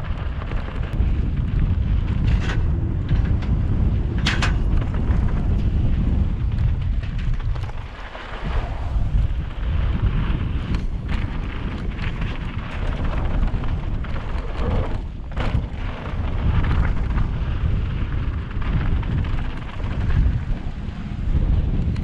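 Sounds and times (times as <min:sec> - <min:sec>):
bike knocks and rattles: 0:00.0 - 0:22.0
bike tyre noise: 0:00.0 - 0:22.0
wind rushing over microphone: 0:00.0 - 0:22.0.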